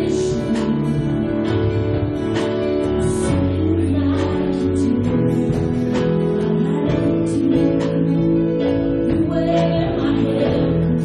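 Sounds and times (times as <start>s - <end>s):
drums playing steady beat: 0.0s - 11.0s
sustained keyboard chords: 0.0s - 11.0s.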